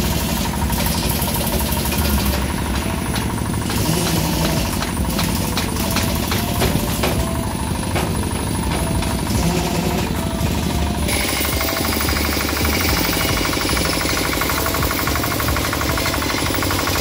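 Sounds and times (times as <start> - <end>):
diesel generator running: 0.0 - 17.0.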